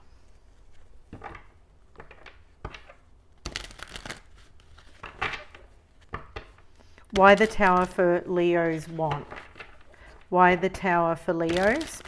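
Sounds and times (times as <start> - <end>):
cards shuffling: 1.2 - 12.0.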